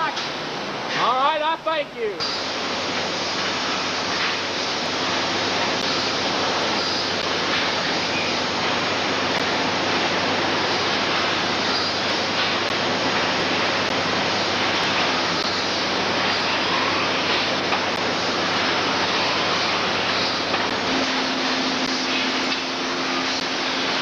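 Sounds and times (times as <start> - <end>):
factory machinery din: 0.0 - 24.0.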